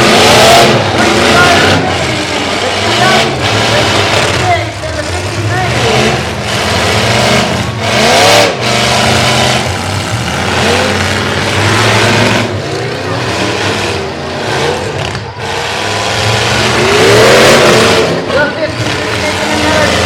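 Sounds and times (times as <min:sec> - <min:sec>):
truck engines revving: 0:00.0 - 0:20.0.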